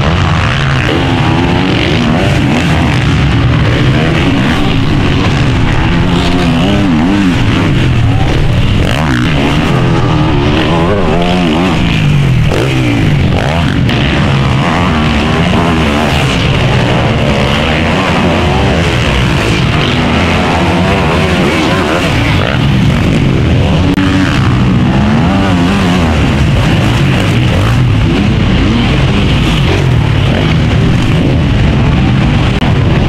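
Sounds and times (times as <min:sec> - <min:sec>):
motocross motorcycle engines racing: 0:00.0 - 0:33.0.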